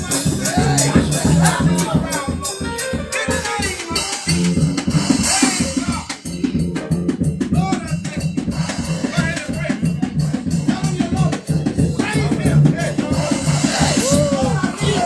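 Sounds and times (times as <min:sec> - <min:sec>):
bass line: 0:00.0 - 0:15.0
drum kit fast beat: 0:00.0 - 0:15.0.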